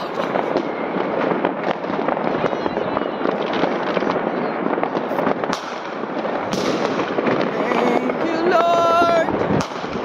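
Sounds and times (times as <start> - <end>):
fireworks crackling and banging: 0.0 - 10.0.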